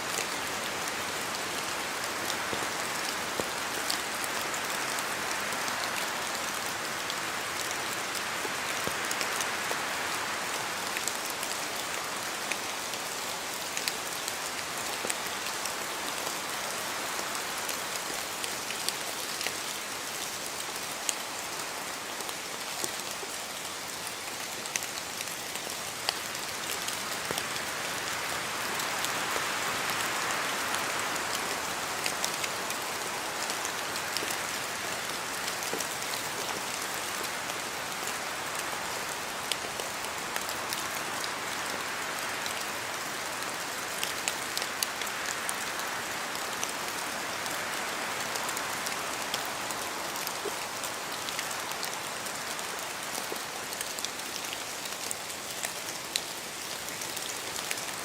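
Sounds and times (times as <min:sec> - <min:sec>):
rain hissing in forest: 0:00.0 - 0:58.0.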